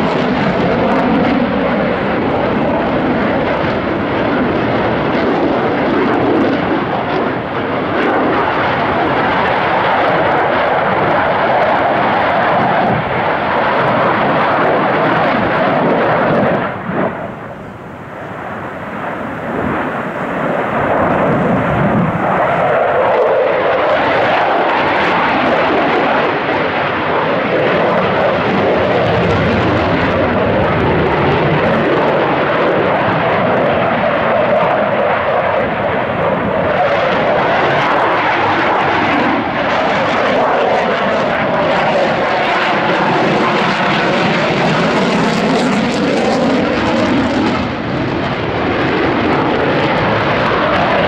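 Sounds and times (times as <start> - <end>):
jet engine roar: 0.0 - 51.0.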